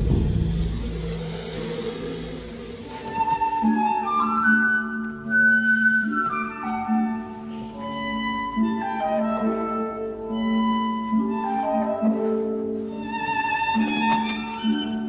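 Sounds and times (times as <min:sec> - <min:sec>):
slow classical music: 0:00.0 - 0:15.0.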